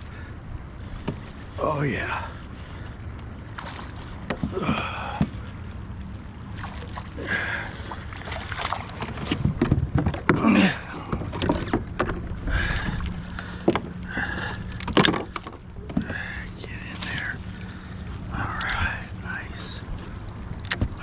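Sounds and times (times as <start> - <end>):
water sounds: 0.0 - 21.0.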